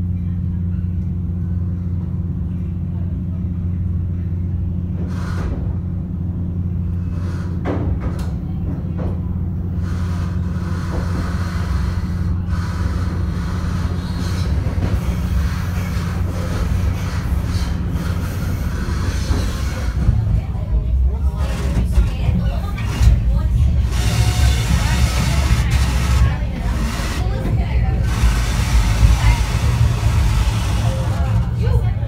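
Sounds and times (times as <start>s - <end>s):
train interior hum and rumble: 0.0s - 32.0s
wheel and track noise: 0.7s - 32.0s.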